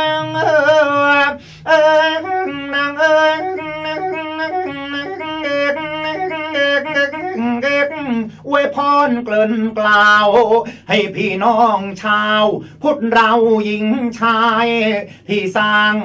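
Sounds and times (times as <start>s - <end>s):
man singing ornamented notes: 0.0s - 16.0s.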